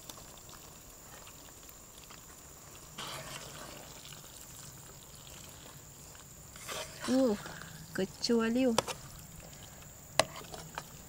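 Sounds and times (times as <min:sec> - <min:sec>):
sauce bubbling in a pan: 0:00.0 - 0:11.0
spatula stirring: 0:00.1 - 0:11.0.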